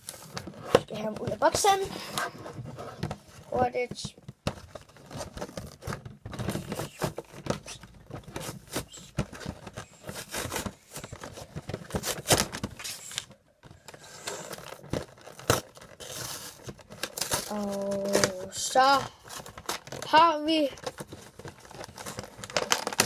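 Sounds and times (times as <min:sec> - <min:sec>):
packaging tearing and crinkling: 0:04.5 - 0:23.0.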